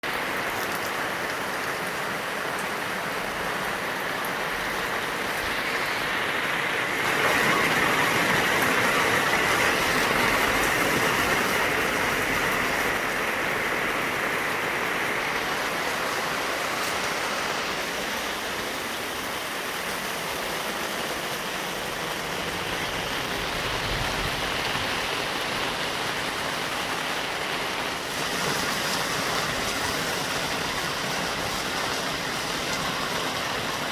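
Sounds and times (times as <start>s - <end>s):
heavy rain hissing: 0.0s - 33.9s.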